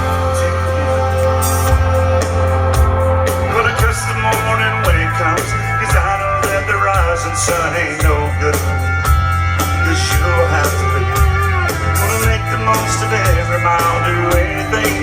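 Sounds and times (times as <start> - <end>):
country band playing: 0.0 - 15.0
electric guitar: 0.0 - 15.0
heavy bass line: 0.0 - 15.0
person singing: 0.0 - 15.0
drum beat: 1.5 - 15.0.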